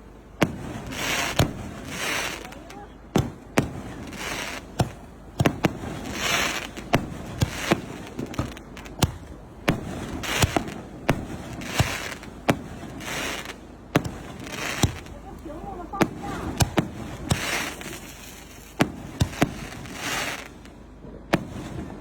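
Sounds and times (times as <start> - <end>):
fireworks bangs: 0.0 - 22.0
fireworks hissing: 0.0 - 22.0.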